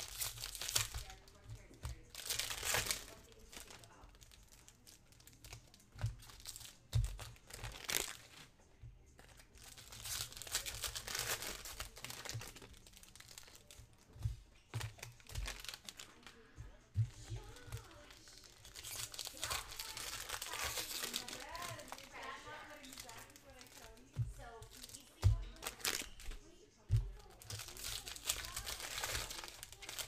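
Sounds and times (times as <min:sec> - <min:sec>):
foil wrappers crinkling and tearing: 0:00.0 - 0:08.5, 0:09.2 - 0:30.0.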